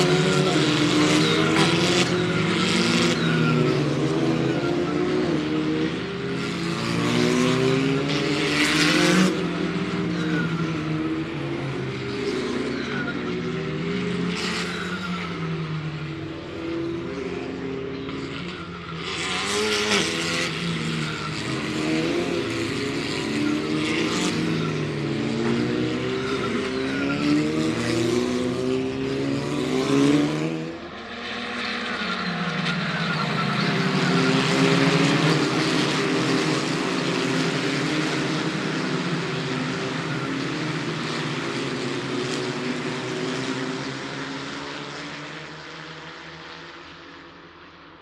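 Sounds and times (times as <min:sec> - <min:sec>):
race car engines at speed: 0:00.0 - 0:48.0.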